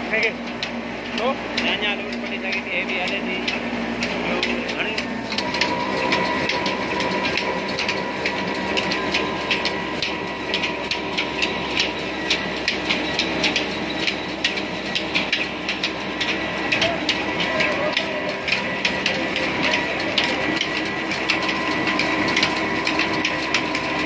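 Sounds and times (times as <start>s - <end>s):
old diesel engine running: 0.0s - 24.0s
sharp rhythmic clicking: 0.1s - 24.0s.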